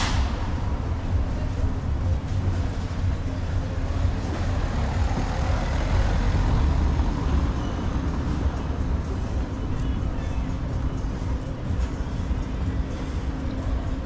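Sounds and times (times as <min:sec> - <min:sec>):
heavy road vehicle rumbling: 0:00.0 - 0:14.0.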